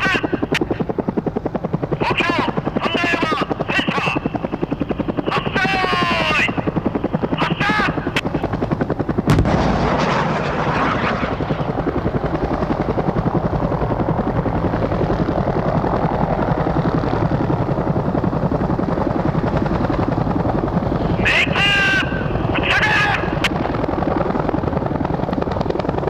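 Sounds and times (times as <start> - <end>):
helicopter rotor beating: 0.0 - 26.0.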